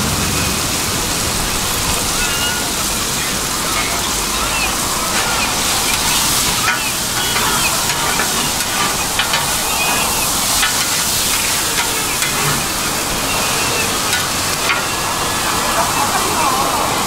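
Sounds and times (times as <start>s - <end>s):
vegetables sizzling on a griddle: 0.0s - 17.0s
metal spatula scraping griddle: 2.2s - 15.8s.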